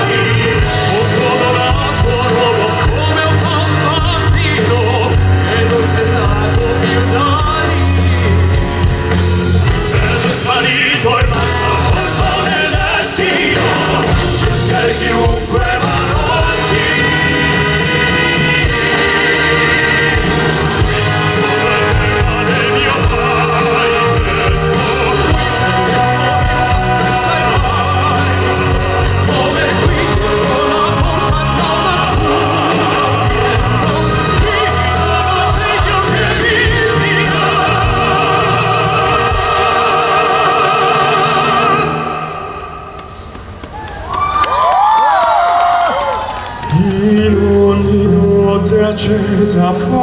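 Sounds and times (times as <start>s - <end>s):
male vocal quartet singing: 0.0s - 43.4s, 46.6s - 50.0s
amplified backing track: 0.0s - 44.6s.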